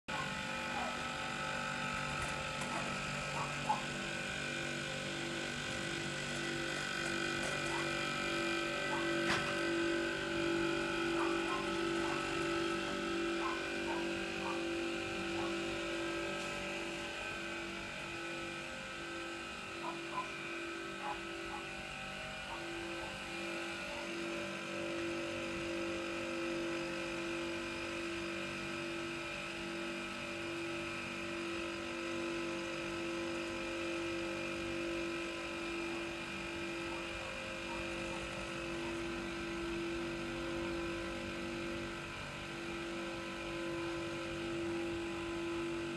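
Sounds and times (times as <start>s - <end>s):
air compressor running: 0.1s - 45.9s.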